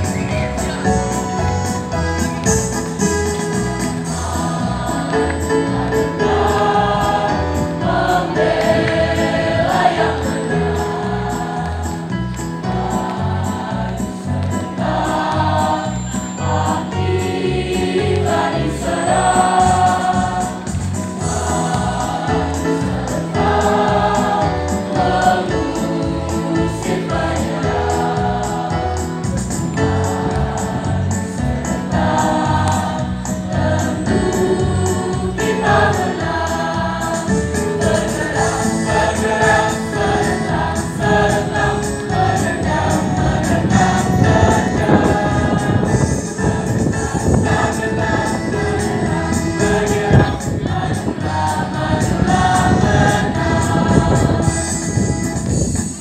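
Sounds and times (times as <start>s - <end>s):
children's choir singing: 0.0s - 55.6s
accompaniment with steady beat: 0.0s - 56.0s.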